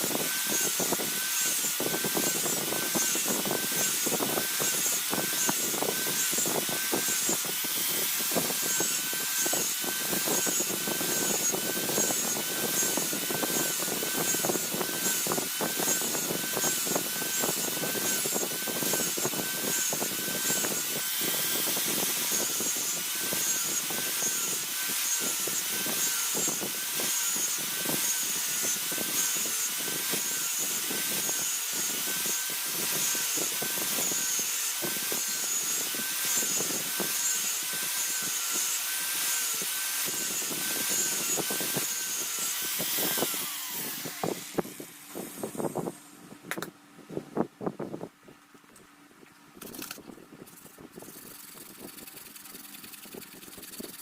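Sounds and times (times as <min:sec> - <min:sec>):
grinding steel blade: 0:00.0 - 0:45.6, 0:49.6 - 0:54.0.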